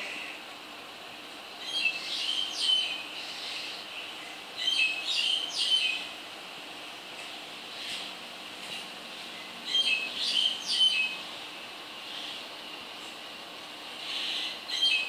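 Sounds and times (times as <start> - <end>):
songbird chirping: 1.4 - 13.3, 13.9 - 15.0.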